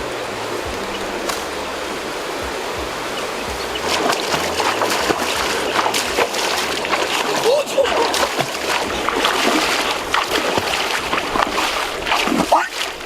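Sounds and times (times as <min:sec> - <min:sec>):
water running: 0:00.0 - 0:13.0
water splashing and sloshing: 0:00.0 - 0:13.0.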